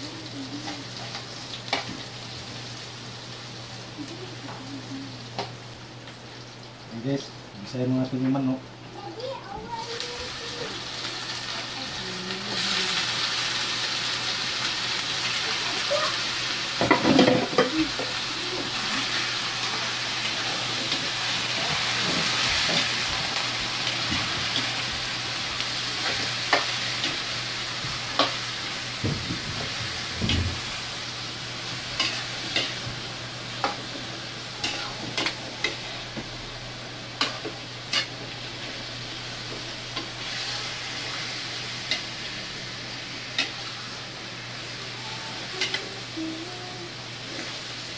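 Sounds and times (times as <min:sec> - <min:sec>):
chicken sizzling in hot oil: 0:00.0 - 0:07.2, 0:09.2 - 0:47.9.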